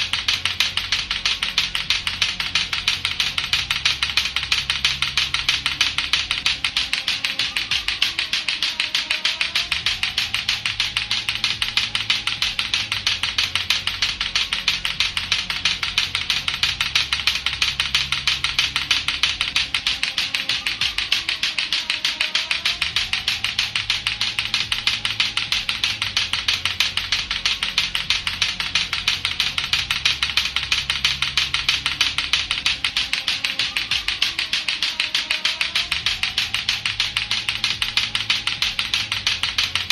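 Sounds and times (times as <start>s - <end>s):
plastic balls clacking together: 0.0s - 39.9s.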